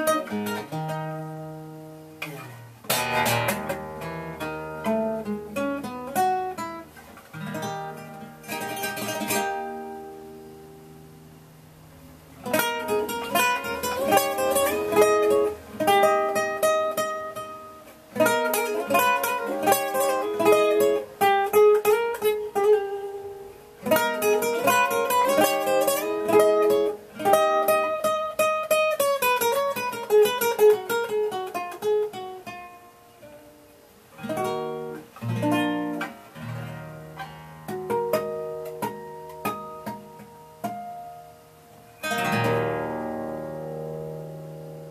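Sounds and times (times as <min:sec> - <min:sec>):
classical guitar playing: 0:00.0 - 0:44.9.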